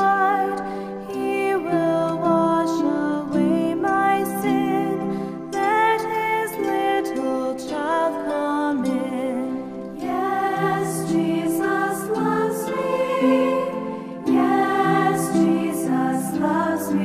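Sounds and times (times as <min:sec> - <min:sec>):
held instrumental notes: 0:00.0 - 0:17.0
person singing: 0:00.0 - 0:17.0.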